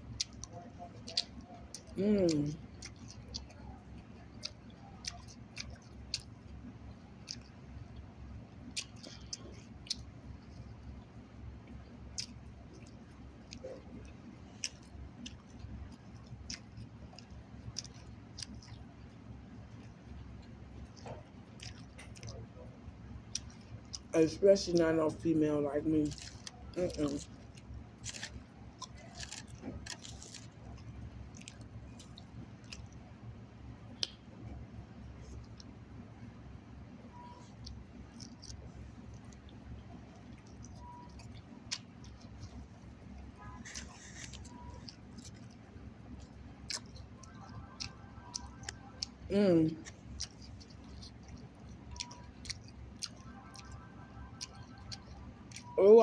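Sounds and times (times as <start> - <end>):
person chewing food: 0.0 - 25.2, 26.0 - 55.8.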